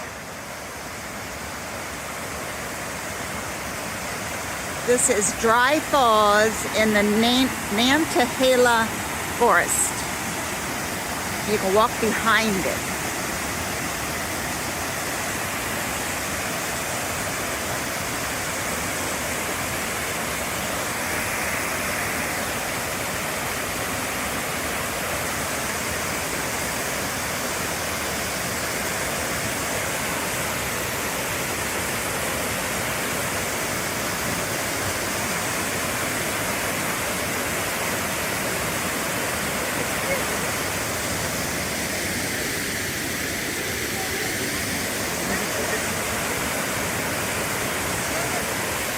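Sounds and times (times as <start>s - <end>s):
waterfall roar: 0.0s - 48.9s.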